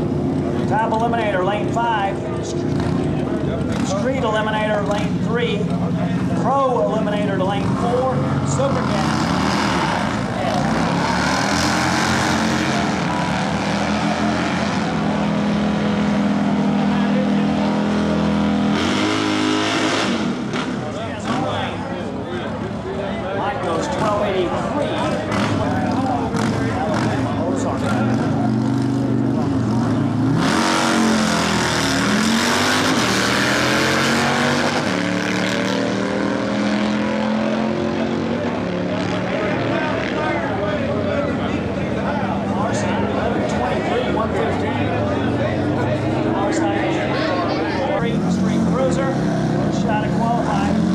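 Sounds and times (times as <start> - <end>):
motorcycle engines at full throttle: 0.0 - 50.9.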